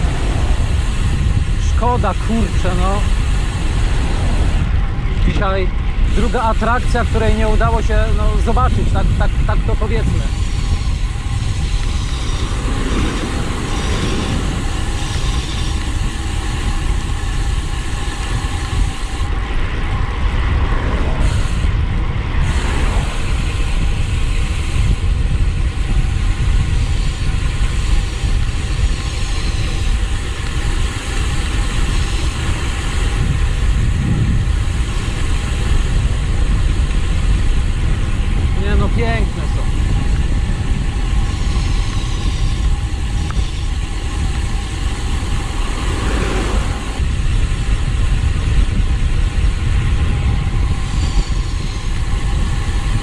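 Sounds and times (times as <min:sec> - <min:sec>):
bicycle tyres on road: 0:00.0 - 0:53.0
wind rumble on microphone: 0:00.0 - 0:53.0.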